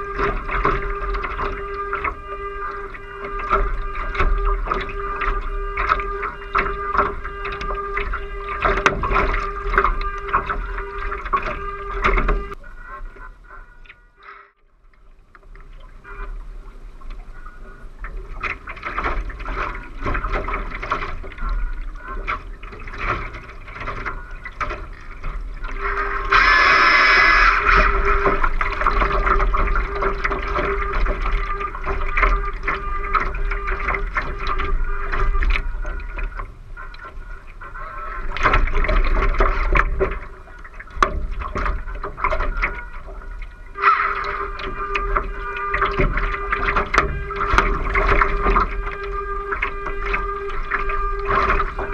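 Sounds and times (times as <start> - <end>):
steady low tone: 0.0 - 51.9
water rushing along hull: 0.0 - 51.9.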